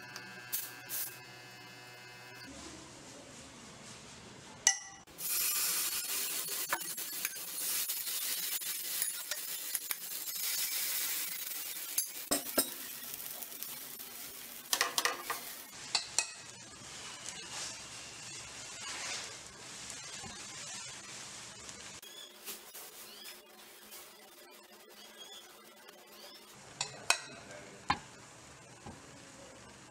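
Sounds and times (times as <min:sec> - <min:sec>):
batter sizzling on a pan: 0:05.1 - 0:29.8.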